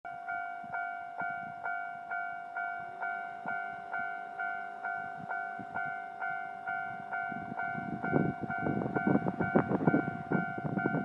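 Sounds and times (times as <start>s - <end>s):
crossing warning bell clanging: 0.1s - 11.0s.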